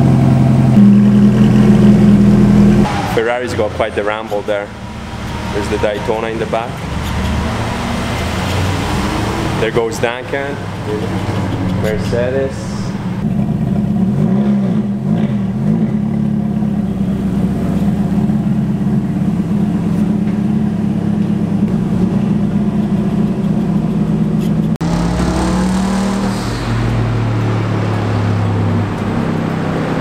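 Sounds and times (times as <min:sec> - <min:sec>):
car engine running and revving: 0:00.0 - 0:30.0.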